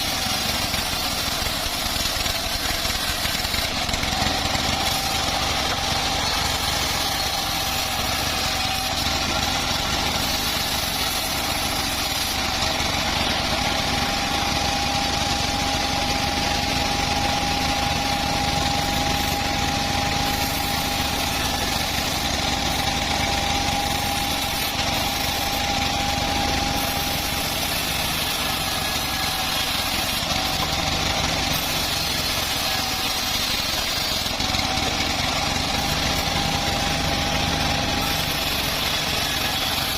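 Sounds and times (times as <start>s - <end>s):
bandsaw sawing log: 0.0s - 39.9s.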